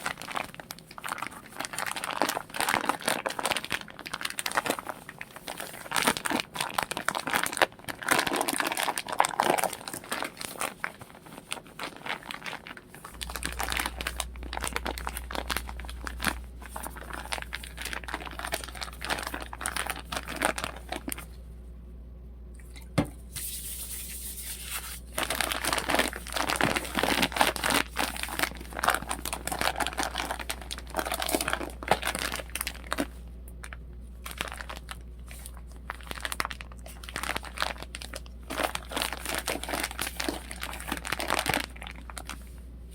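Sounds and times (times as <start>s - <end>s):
plastic crinkling: 0.0s - 21.4s, 23.3s - 42.7s
steady low hum: 0.0s - 42.9s.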